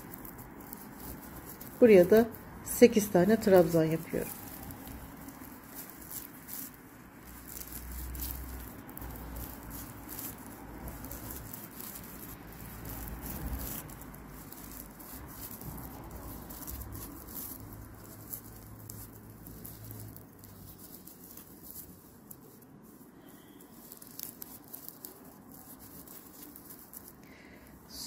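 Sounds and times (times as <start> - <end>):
yarn crinkling against crochet hook: 0.0 - 28.0.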